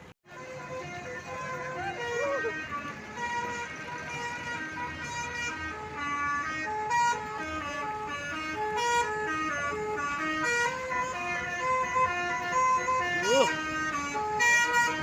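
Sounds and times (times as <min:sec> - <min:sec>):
bus horns playing melodic tunes: 0:00.0 - 0:15.0.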